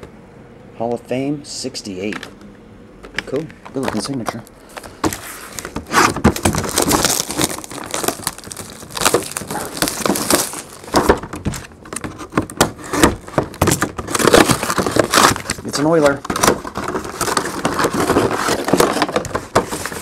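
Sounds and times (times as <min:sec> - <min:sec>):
plastic shrink wrap crinkling: 0:03.8 - 0:20.0.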